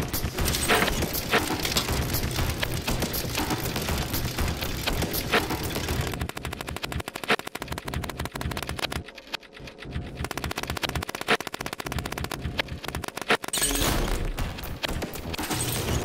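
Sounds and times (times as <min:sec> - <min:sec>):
fast rattle of sharp clicks: 0:00.2 - 0:13.6.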